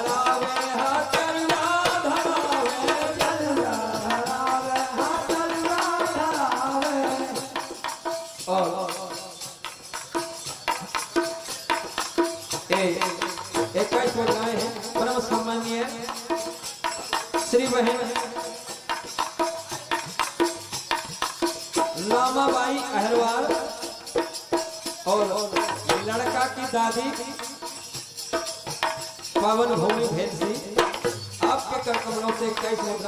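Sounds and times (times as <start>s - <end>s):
hand drum beating: 0.0s - 33.0s
jingling rattle percussion: 0.0s - 33.0s.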